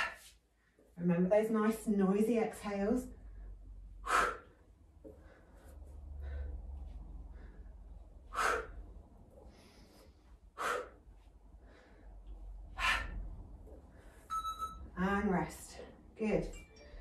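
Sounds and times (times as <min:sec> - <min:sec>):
low steady rumble: 0:00.5 - 0:17.0.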